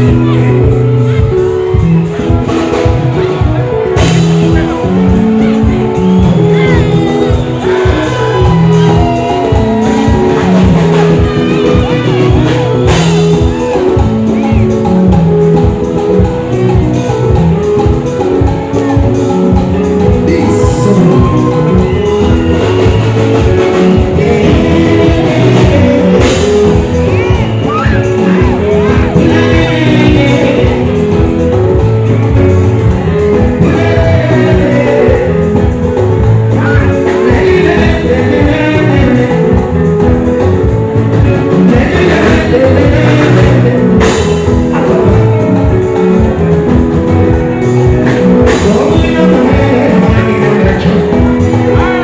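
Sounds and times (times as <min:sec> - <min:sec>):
drum beat: 0:00.0 - 0:52.0
lead singer singing: 0:00.0 - 0:52.0
live band music: 0:00.0 - 0:52.0.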